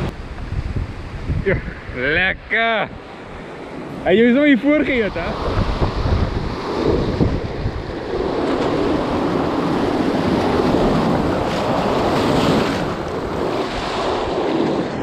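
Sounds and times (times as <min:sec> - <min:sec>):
surf washing over rocks: 0:00.0 - 0:15.0
wind buffeting microphone: 0:00.0 - 0:15.0.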